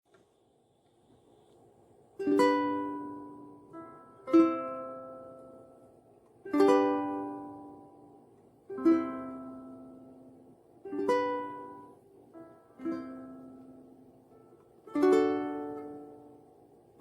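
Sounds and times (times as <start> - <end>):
ukulele chords strummed: 2.2 - 16.8.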